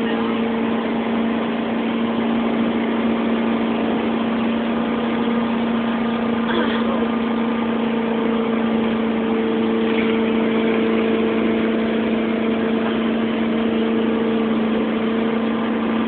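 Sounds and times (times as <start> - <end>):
motorboat engine drone: 0.0 - 16.0
rushing water noise: 0.0 - 16.0.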